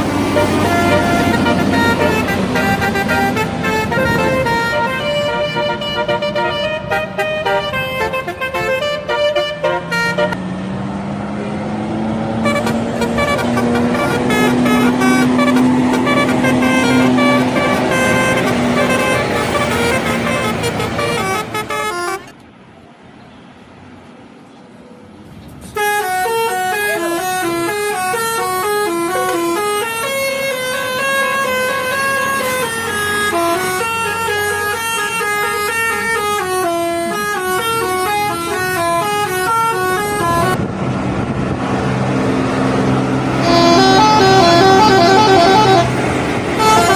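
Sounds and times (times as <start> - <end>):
low engine note: 0.0 - 9.4, 10.0 - 21.8, 25.8 - 46.9
musical bus horn: 0.0 - 10.4, 12.3 - 22.4, 25.7 - 40.6, 43.2 - 46.9
faint traffic noise: 0.0 - 46.9.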